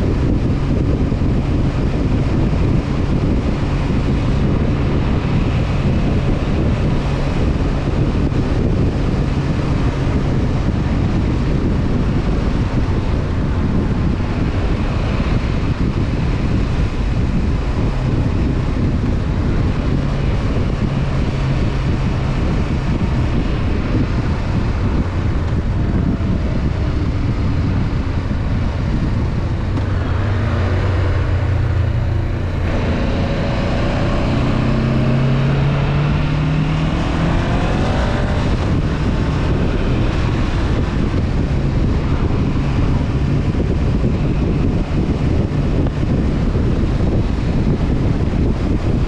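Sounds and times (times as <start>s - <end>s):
motorcycle engine accelerating: 0.0s - 49.0s
wind rush on microphone: 0.0s - 49.0s.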